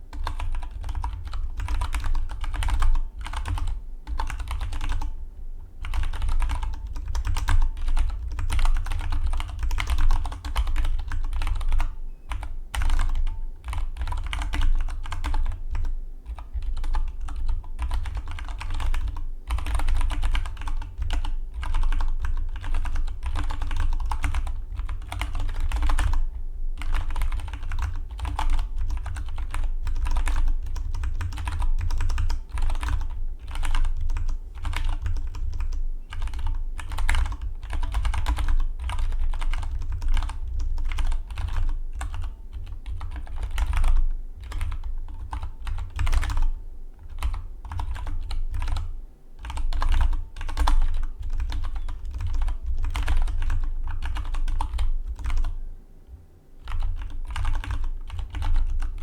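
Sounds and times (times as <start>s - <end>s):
mechanical keyboard typing: 0.1s - 5.2s, 5.8s - 55.6s, 56.6s - 59.0s.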